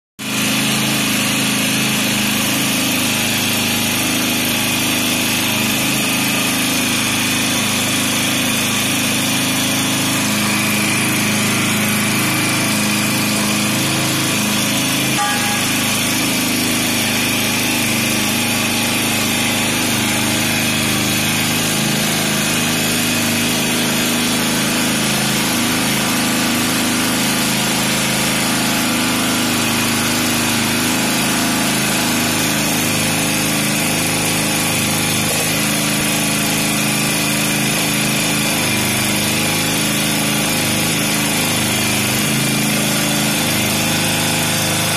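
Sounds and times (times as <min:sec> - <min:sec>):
hydraulic power unit motor drone: 0:00.2 - 0:44.9.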